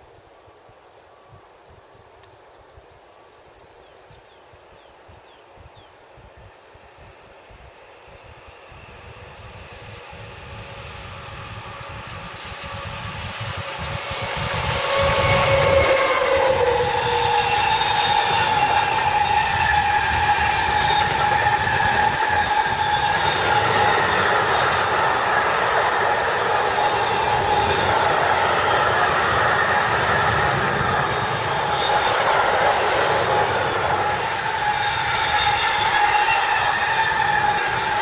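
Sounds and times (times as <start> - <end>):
train wheels rumbling on rails: 6.0 - 38.0.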